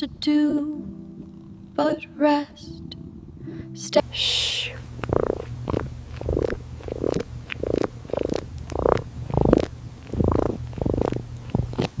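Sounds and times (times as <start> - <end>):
cat purring: 0.0 - 3.4, 4.0 - 12.0.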